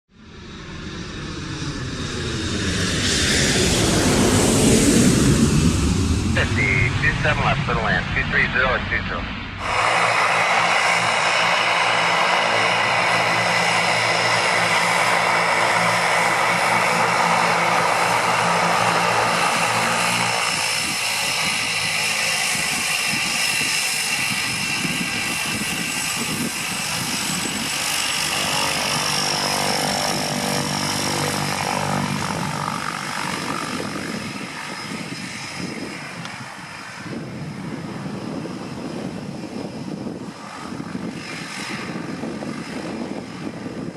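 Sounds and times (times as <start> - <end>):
turboprop plane taking off: 0.1 - 43.9.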